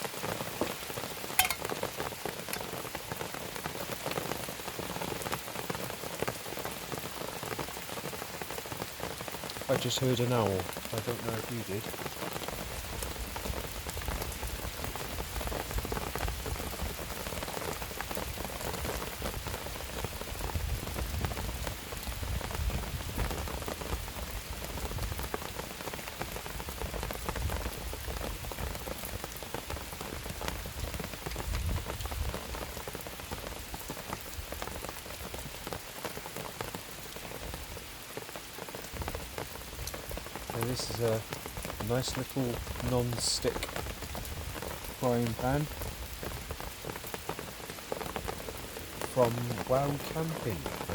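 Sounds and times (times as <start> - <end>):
rain pattering: 0.0 - 50.9.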